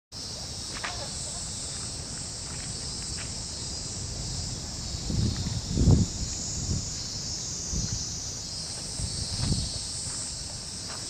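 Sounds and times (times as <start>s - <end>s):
insects chorus: 0.1s - 11.0s.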